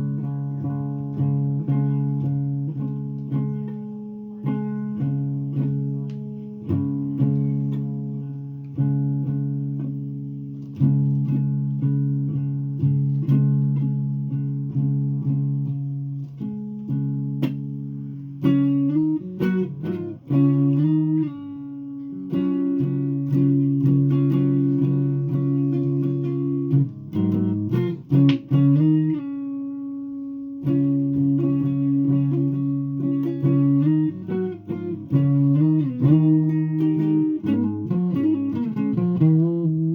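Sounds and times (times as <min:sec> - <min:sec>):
solo guitar chords and picked notes: 0:00.0 - 0:39.9.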